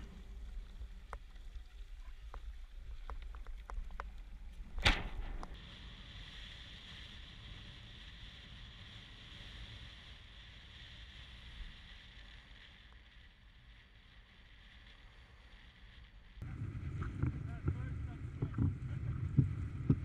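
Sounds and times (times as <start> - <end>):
hiss of wind and water: 0.0 - 20.0
wind rumble on microphone: 0.0 - 20.0.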